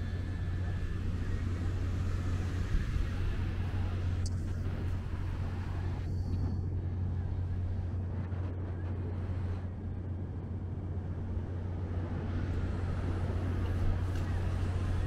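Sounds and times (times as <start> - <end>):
low hum of vehicle engines: 0.0 - 15.0.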